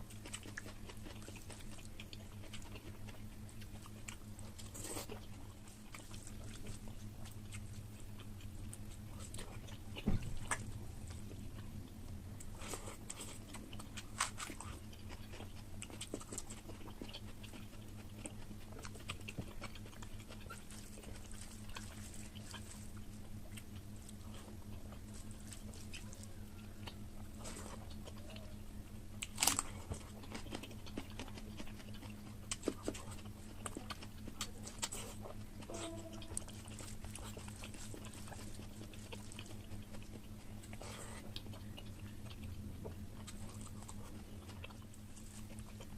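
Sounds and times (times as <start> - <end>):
faint steady hum: 0.0 - 45.9
food crunch: 0.0 - 45.9
wet chewing: 0.0 - 45.9.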